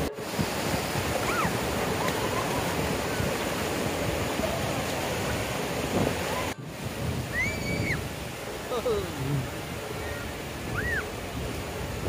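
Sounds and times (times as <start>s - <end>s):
sea surf: 0.0s - 12.0s.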